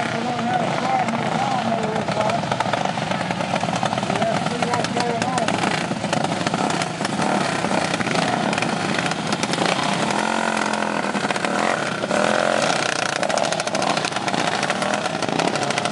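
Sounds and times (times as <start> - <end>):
lawn mower engines racing: 0.0 - 15.9.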